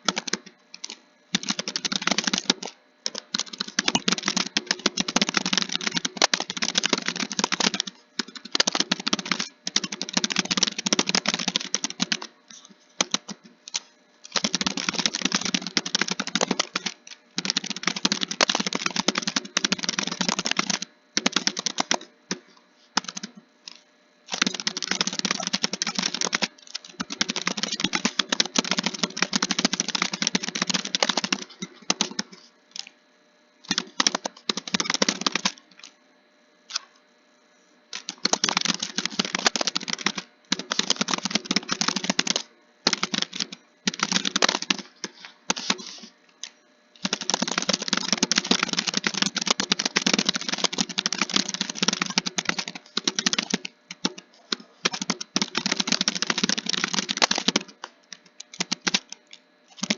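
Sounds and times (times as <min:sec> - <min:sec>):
fast typing on keyboard: 0:00.0 - 0:22.1, 0:23.0 - 0:32.9, 0:33.6 - 0:36.0, 0:37.9 - 0:46.1, 0:47.0 - 0:59.9.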